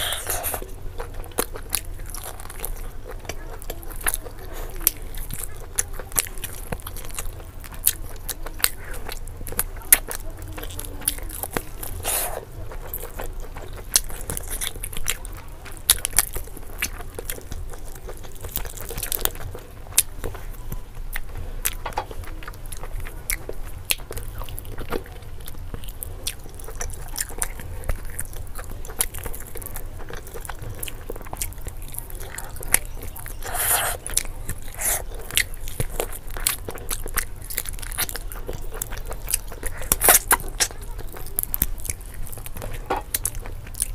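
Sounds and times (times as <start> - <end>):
chewing meat off a bone: 0.0 - 43.9.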